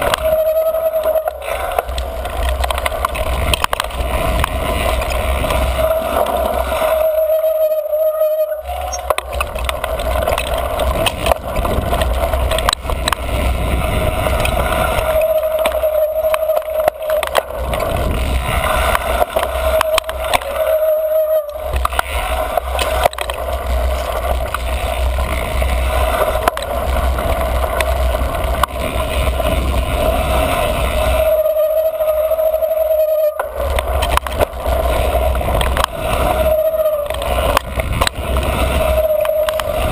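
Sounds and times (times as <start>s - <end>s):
disc brake squealing: 0.0s - 29.1s, 29.8s - 39.9s
bike rattling over bumps: 0.0s - 39.9s
tyres on dirt: 0.0s - 39.9s
wind on camera: 0.0s - 39.9s.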